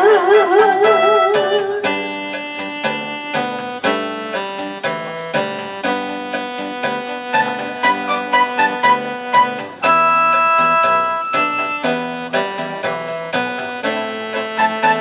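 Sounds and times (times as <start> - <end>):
keyboard ballad chords and melody: 0.0 - 15.0.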